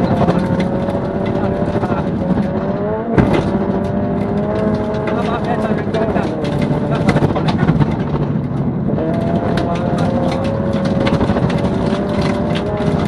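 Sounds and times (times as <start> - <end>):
rally car engine revving high: 0.0 - 13.0.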